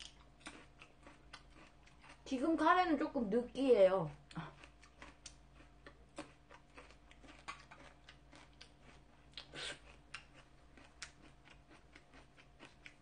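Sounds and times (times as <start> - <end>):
faint chewing with wet mouth clicks: 0.0 - 2.3, 4.2 - 13.0.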